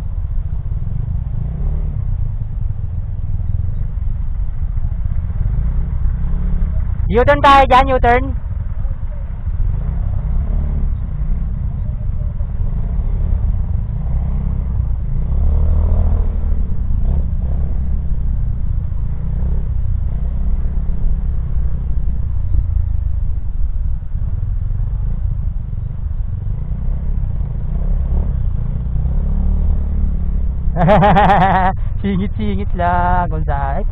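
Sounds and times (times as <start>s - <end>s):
motorcycle engine rumble: 0.0s - 33.9s
surrounding traffic: 0.0s - 33.9s.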